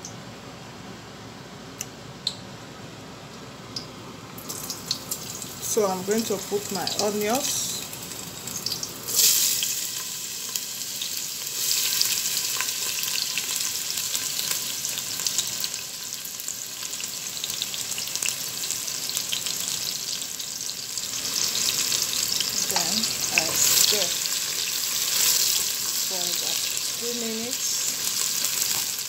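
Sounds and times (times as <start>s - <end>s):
onions sizzling in hot oil: 4.4s - 29.0s.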